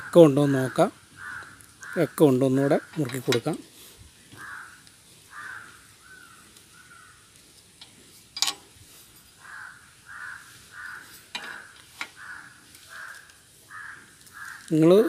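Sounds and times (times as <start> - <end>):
crows cawing: 0.0 - 3.3, 4.2 - 7.3, 9.3 - 15.0.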